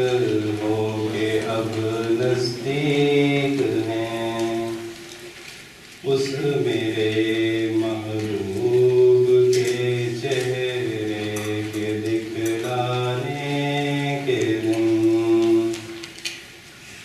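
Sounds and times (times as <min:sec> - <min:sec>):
man singing through pa: 0:00.0 - 0:05.4, 0:06.0 - 0:16.2.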